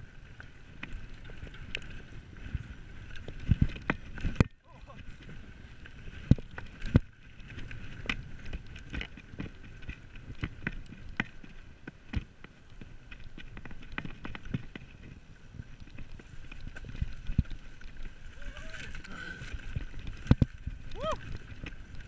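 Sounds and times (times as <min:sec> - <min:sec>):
bike knocking and rattling: 0:00.0 - 0:22.0
bike tyre noise on dirt: 0:00.0 - 0:22.0.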